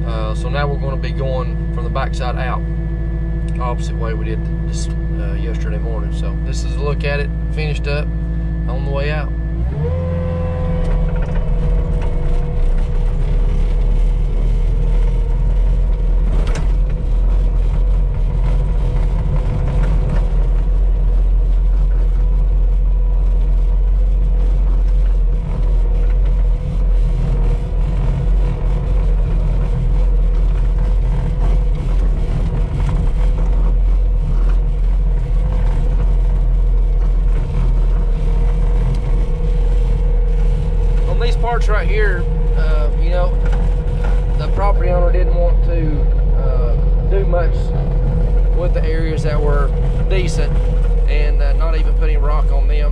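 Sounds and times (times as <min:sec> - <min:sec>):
steady whine: 0:00.0 - 0:52.9
vehicle engine rumble: 0:00.0 - 0:52.9.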